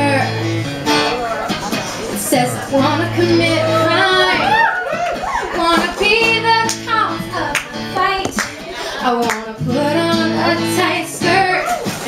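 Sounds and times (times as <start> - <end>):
woman singing: 0.0 - 0.4, 2.1 - 4.8, 5.4 - 12.0
strummed acoustic guitar: 0.0 - 12.0.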